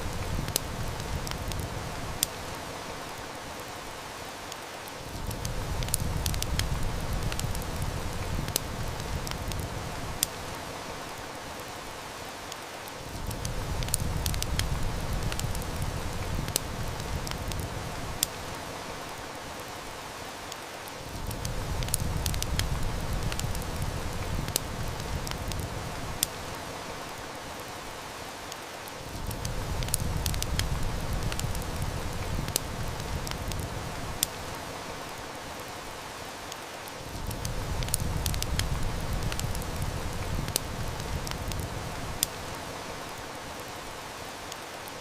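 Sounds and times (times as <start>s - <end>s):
heavy rain: 0.0s - 45.0s
wood fire crackling: 0.0s - 45.0s.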